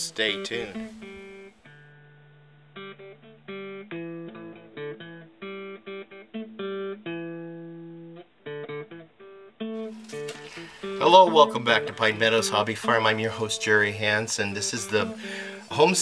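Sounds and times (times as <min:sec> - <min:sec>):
plucked guitar tune: 0:00.0 - 0:16.0.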